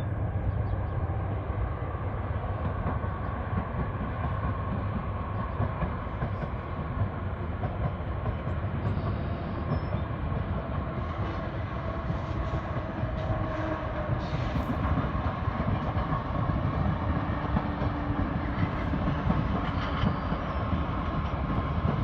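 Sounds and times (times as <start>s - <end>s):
train rumbling on tracks: 0.0s - 22.0s.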